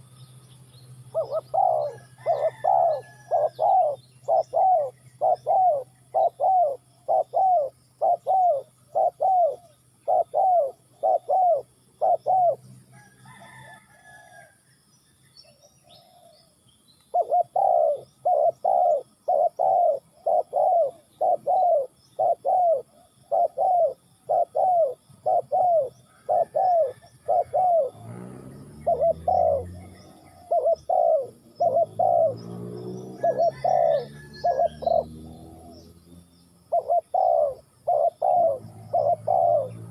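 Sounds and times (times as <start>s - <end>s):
small birds chirping: 0.0s - 13.6s, 14.9s - 39.9s
dove cooing: 1.1s - 14.4s, 15.8s - 16.5s, 17.1s - 35.9s, 36.6s - 39.9s.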